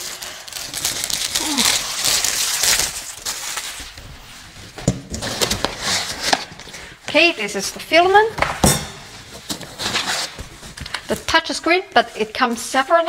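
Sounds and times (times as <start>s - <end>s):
packaging rustling and crinkling: 0.0s - 7.0s, 9.1s - 13.0s.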